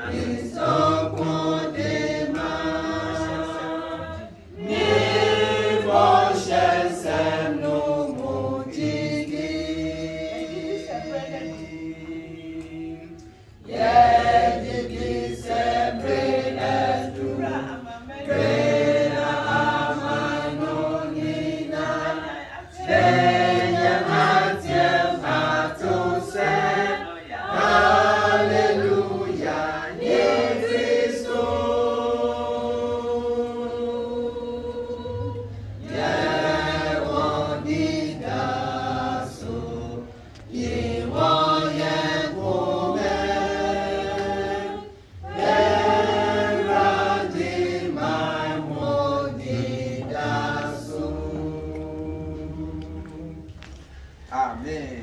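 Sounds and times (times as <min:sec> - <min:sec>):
group singing gospel song: 0:00.0 - 0:55.0.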